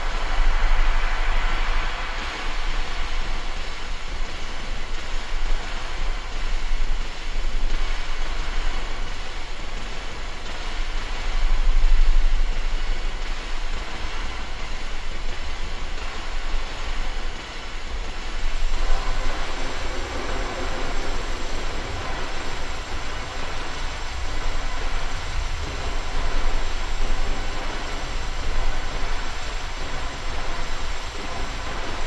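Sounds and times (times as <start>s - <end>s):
deep rumble drone: 0.0s - 32.0s
hiss-like noise wash: 0.0s - 32.0s.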